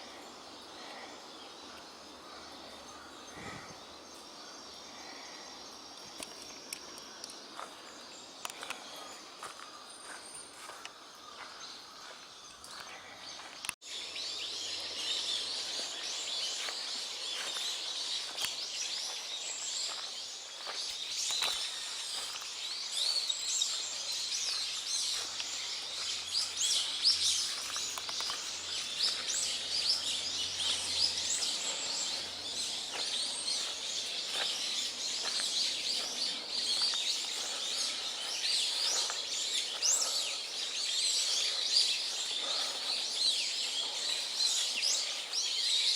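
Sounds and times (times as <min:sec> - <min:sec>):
small birds chirping in chorus: 0:00.0 - 0:45.9.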